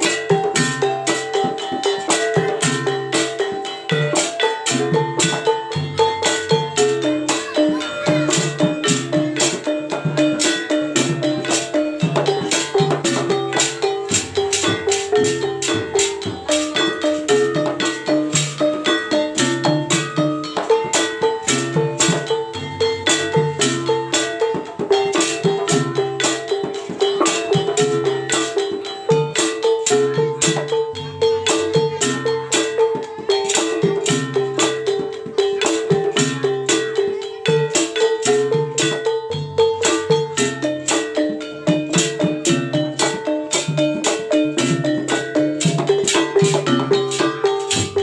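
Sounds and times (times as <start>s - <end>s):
percussion ensemble playing fast beat: 0.0s - 48.0s.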